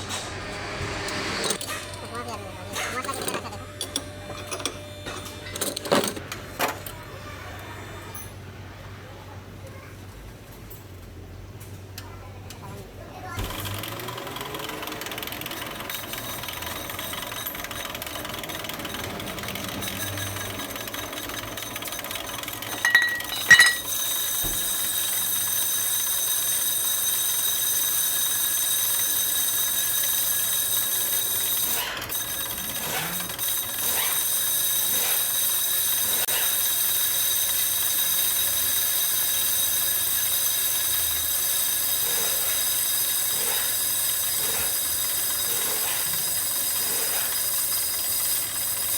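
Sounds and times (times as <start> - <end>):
machine with high ringing tone: 0.0 - 6.3, 13.4 - 48.9.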